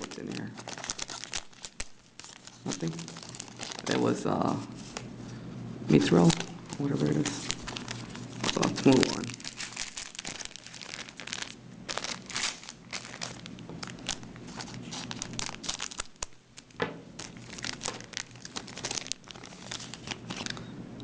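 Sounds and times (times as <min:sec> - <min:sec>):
foil wrapper crinkling: 0:00.0 - 0:05.1, 0:05.9 - 0:20.7.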